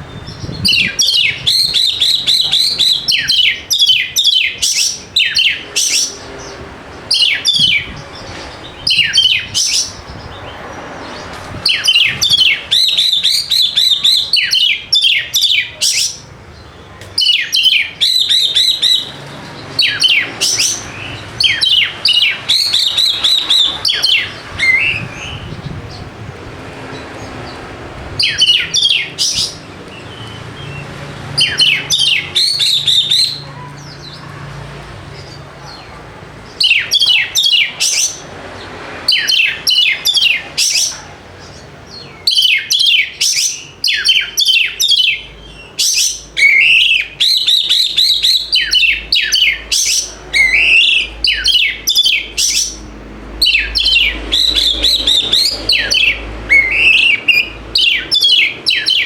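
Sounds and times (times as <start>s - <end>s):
bird singing: 0.0s - 26.3s, 26.9s - 34.3s, 35.1s - 38.3s, 39.1s - 59.0s.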